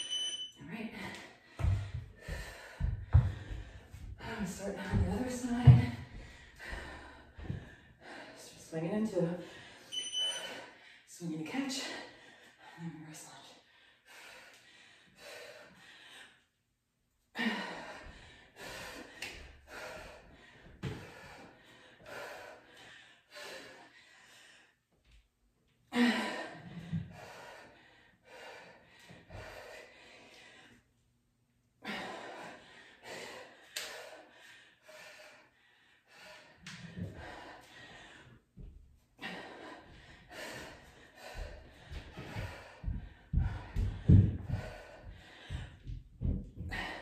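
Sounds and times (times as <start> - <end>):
woman breathing hard: 0.9 - 16.6, 17.3 - 25.2, 25.9 - 31.1, 31.7 - 47.0.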